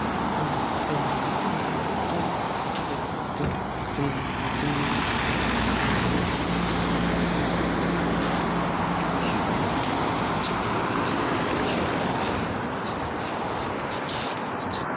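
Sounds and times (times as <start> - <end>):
bus engine hum: 0.0 - 14.9
road traffic hiss on slush: 0.0 - 14.9.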